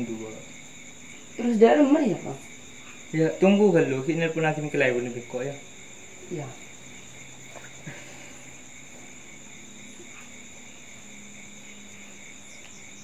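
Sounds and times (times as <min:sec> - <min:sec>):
crickets chirring: 0:00.0 - 0:13.0
faint low hum: 0:00.0 - 0:13.0.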